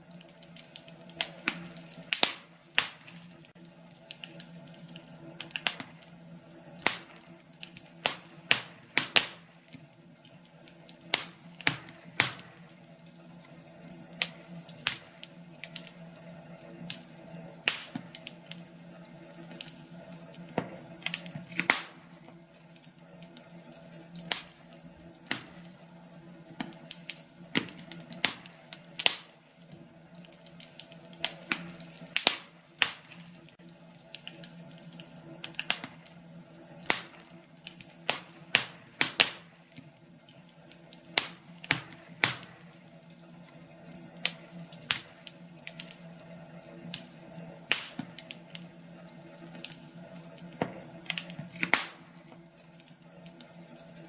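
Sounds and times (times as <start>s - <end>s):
faint steady hum: 0.0s - 54.0s
wood fire crackling: 0.0s - 54.0s.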